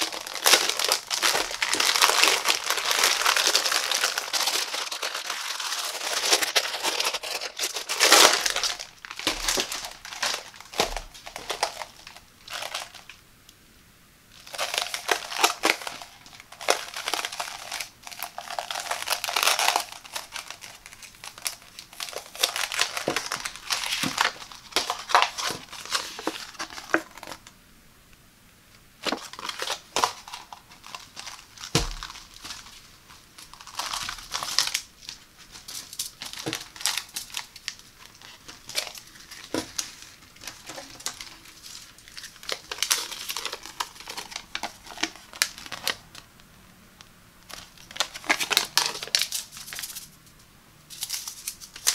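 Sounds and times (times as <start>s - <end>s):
plastic wrapping crinkling: 0.0s - 13.2s, 14.3s - 27.5s, 29.0s - 46.3s, 47.4s - 50.2s, 50.9s - 51.9s.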